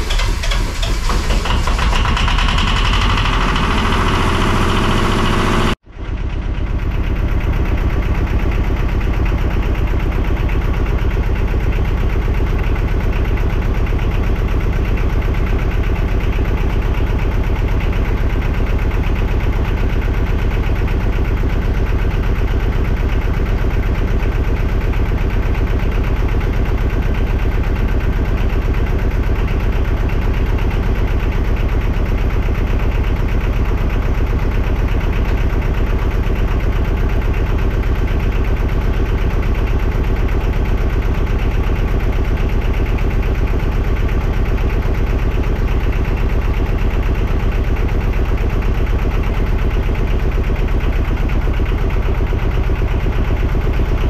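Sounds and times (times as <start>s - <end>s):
marine diesel engine idling: 0.0s - 54.0s.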